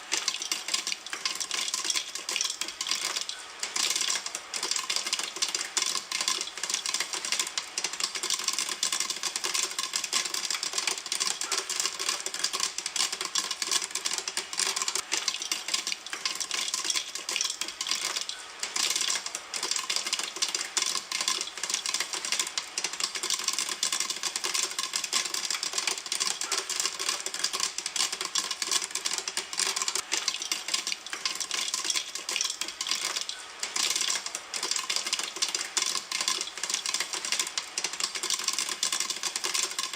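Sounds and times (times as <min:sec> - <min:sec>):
popcorn popping in a pan: 0:00.0 - 0:39.9.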